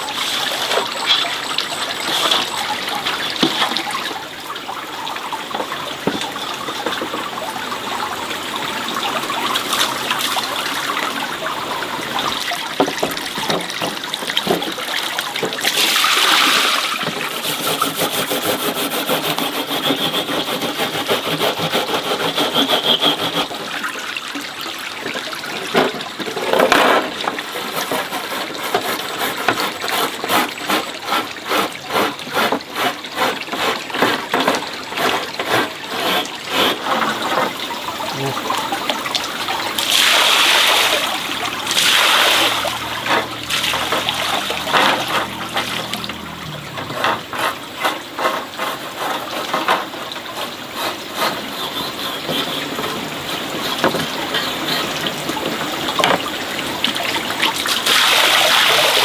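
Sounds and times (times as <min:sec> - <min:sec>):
water pouring surges: 0:00.0 - 0:59.0
water running and splashing: 0:00.0 - 0:59.0.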